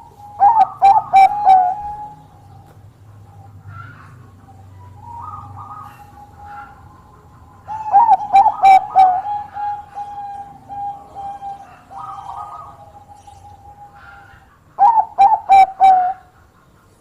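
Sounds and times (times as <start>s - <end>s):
faint steady tone: 0.0s - 3.6s, 4.3s - 17.0s
dove cooing: 0.0s - 17.0s.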